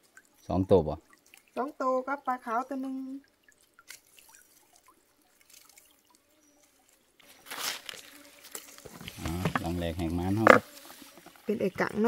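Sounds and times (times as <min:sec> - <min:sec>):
water dripping: 0:00.0 - 0:12.0
water pouring and splashing: 0:00.0 - 0:12.0.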